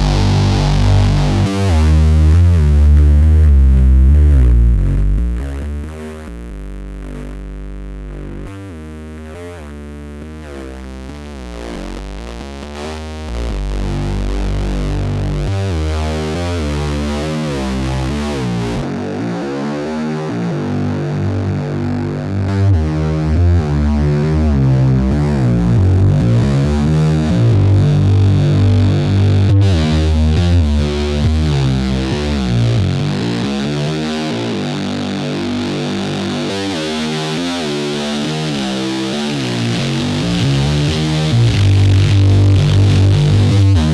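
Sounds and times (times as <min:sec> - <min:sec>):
distorted synthesizer bass line: 0:00.0 - 0:43.9.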